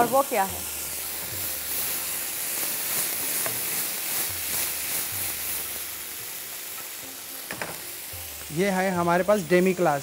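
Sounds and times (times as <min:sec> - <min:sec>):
sauce sizzling in a pan: 0:00.0 - 0:10.0.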